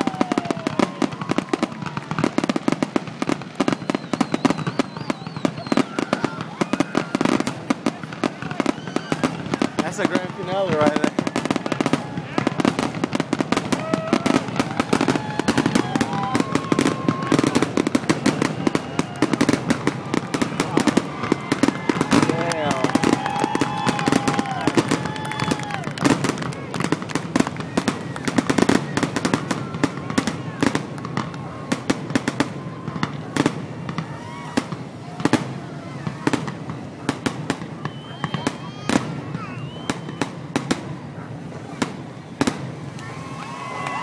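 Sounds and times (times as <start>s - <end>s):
fireworks bursting and crackling: 0.0s - 44.0s.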